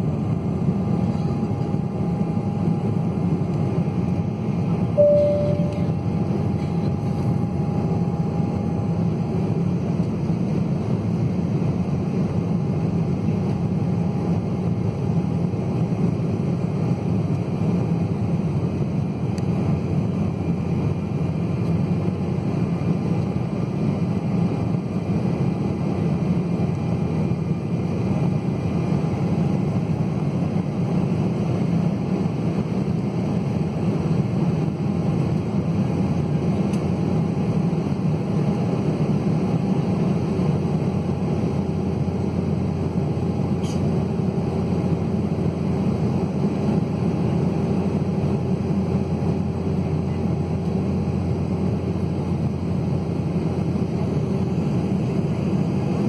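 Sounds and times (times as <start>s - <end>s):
airplane cabin engine noise: 0.0s - 56.0s
faint steady engine tones: 0.0s - 56.0s.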